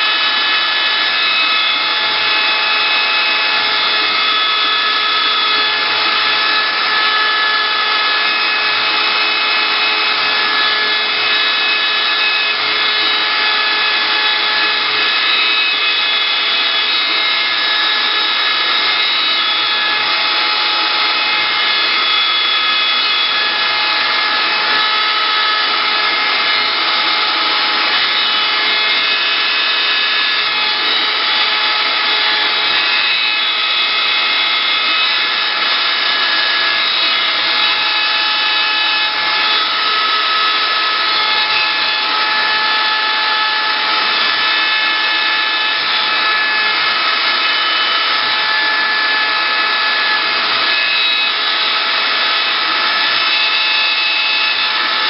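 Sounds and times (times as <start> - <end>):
bit cutting wood: 0.0 - 55.0
router spindle whine: 0.0 - 55.0.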